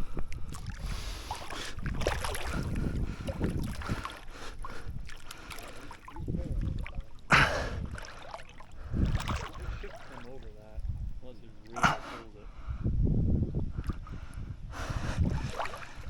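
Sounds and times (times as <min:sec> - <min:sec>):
water sloshing and splashing: 0:00.0 - 0:12.0, 0:13.8 - 0:14.2, 0:14.8 - 0:16.0
wind buffeting microphone: 0:00.0 - 0:16.0.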